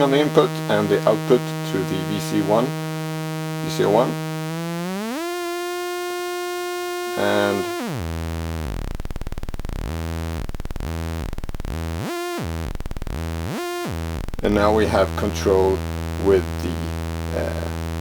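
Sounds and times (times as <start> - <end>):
synthesizer buzzy tone pitch bending: 0.0 - 18.0.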